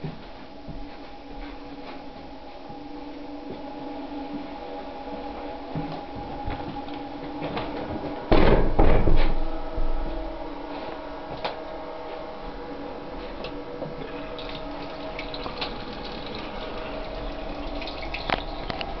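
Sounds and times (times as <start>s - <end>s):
train hum with rushing hiss: 0.0s - 8.3s, 9.3s - 19.0s.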